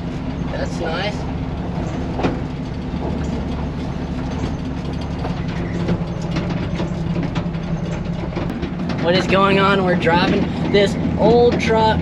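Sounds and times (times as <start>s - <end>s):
truck clicks and rattles: 0.0s - 12.0s
truck engine running: 0.0s - 12.0s.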